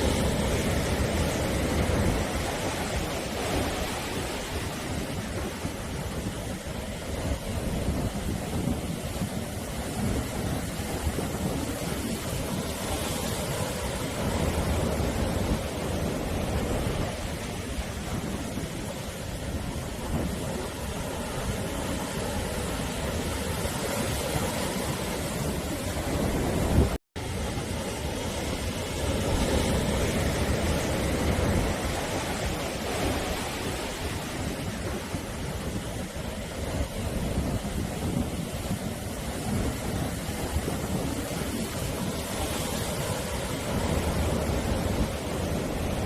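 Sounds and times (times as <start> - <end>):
sea waves breaking on shore: 0.0 - 46.0
wind buffeting microphone: 0.0 - 46.0.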